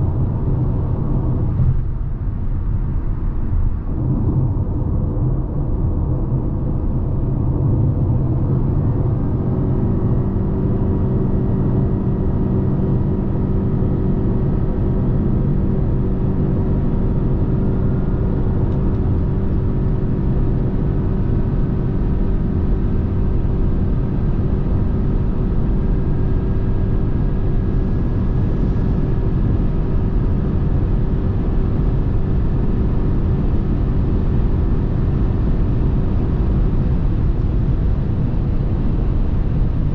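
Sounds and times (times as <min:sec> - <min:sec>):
car engine hum: 0:00.0 - 0:39.9
road and tyre rumble: 0:00.0 - 0:39.9.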